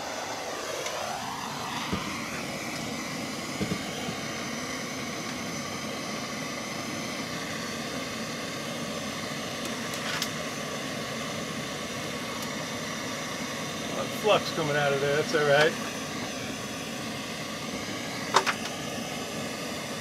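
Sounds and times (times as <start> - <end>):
gas torch hissing: 0.0 - 20.0.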